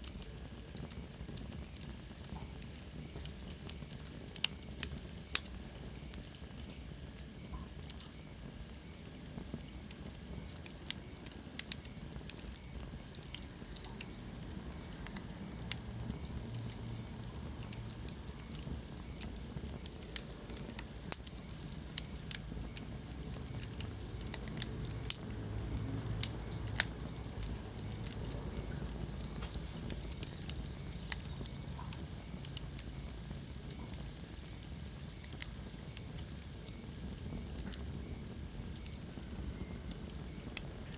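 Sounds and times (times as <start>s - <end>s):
fire crackling and popping: 0.0s - 40.9s
fire low rumble: 0.0s - 40.9s.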